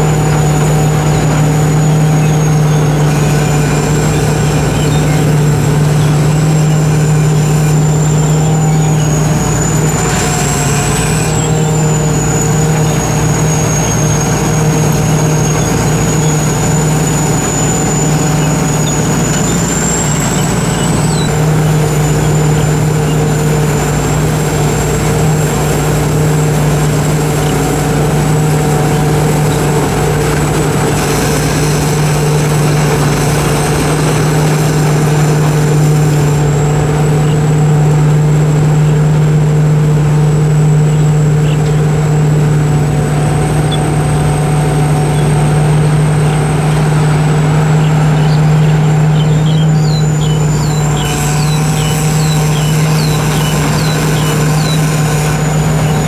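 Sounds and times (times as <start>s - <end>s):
harvester engine humming: 0.0s - 56.0s
thin high whine: 0.0s - 56.0s.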